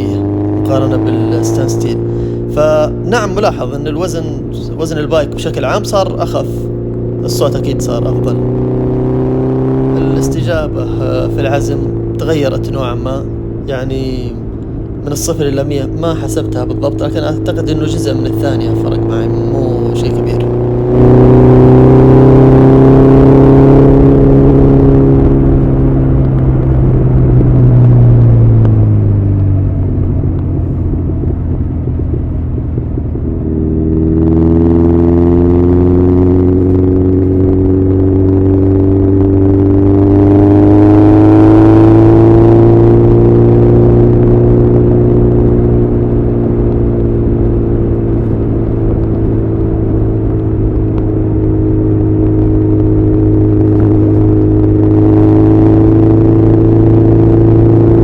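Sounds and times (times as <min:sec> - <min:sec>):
motorcycle engine on the move: 0:00.0 - 0:58.0.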